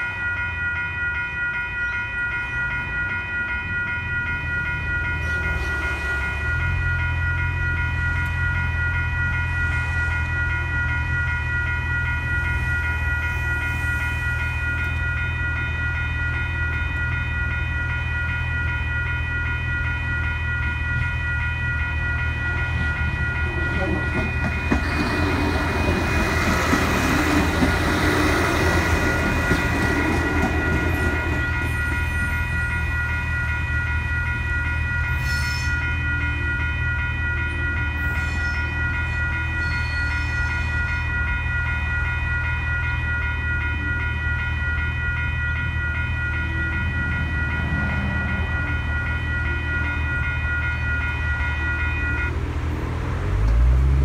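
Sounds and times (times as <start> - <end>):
diesel railcar passing: 0.0 - 54.0
level crossing bells ringing: 0.0 - 54.0.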